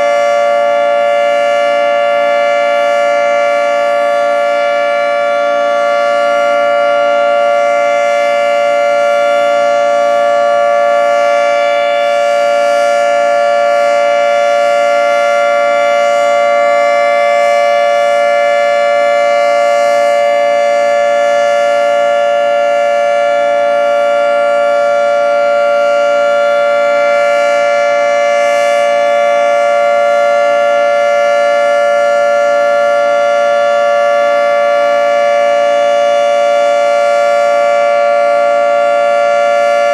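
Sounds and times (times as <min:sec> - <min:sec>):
dual-tone civil defense siren: 0:00.0 - 0:39.9.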